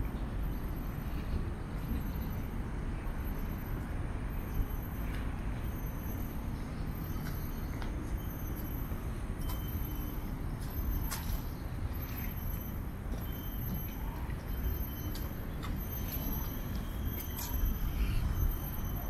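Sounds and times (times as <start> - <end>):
distant city traffic rumble: 0.0 - 19.0.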